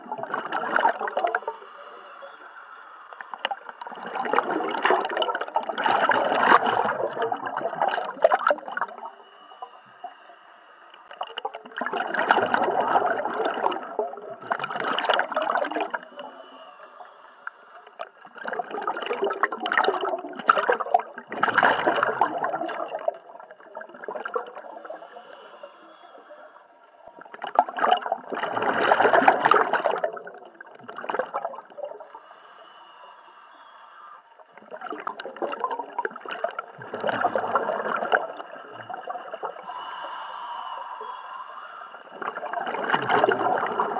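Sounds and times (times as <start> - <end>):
diver exhaling bubbles underwater: 0.0 - 9.8, 11.1 - 17.0, 17.9 - 26.1, 27.1 - 32.1, 34.4 - 43.9.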